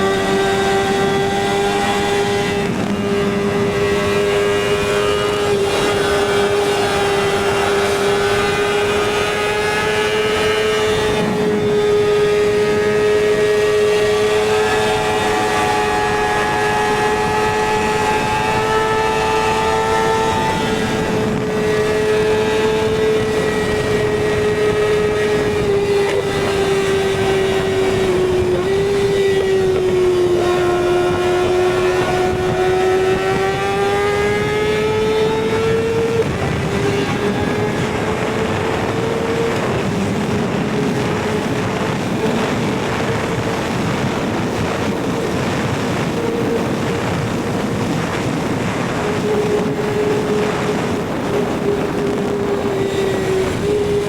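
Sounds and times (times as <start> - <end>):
motorcycle engine at high revs: 0.0 - 54.0
wind noise: 0.0 - 54.0.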